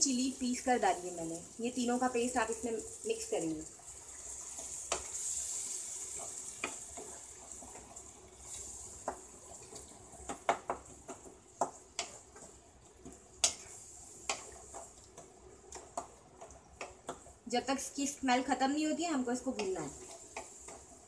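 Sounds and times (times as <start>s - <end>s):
paste sizzling in oil: 0.0s - 21.0s.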